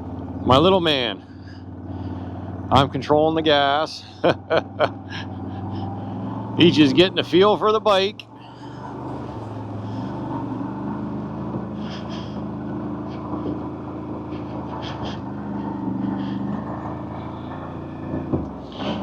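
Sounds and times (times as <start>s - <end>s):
atv engine running low: 0.0s - 19.0s.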